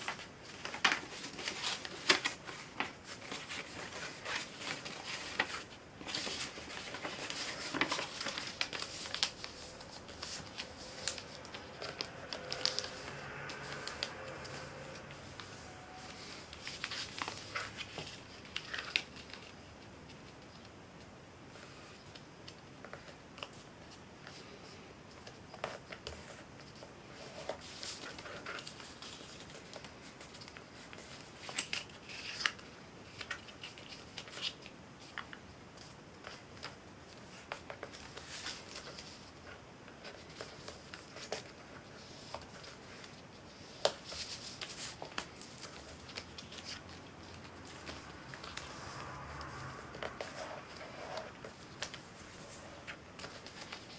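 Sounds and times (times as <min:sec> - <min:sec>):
paper folding and creasing: 0:00.0 - 0:20.8, 0:21.5 - 0:53.9.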